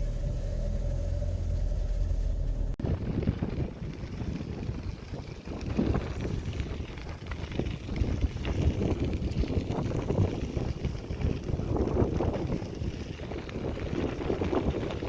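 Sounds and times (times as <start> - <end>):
wind buffeting microphone: 2.6 - 15.0.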